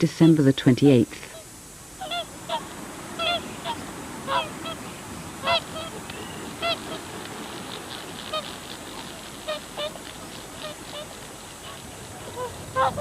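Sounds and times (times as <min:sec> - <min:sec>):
geese honking: 0:01.3 - 0:13.0.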